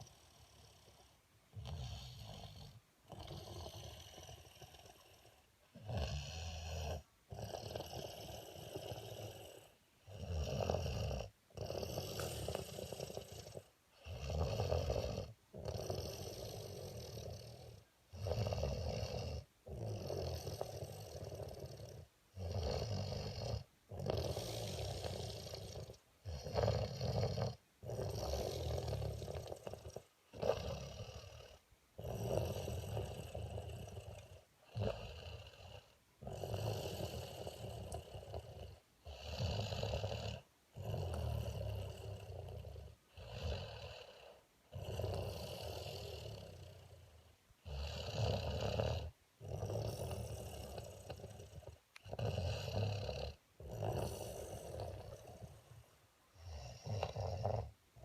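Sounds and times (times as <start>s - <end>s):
person snoring: 0.0s - 47.0s, 47.6s - 55.8s, 56.4s - 58.0s.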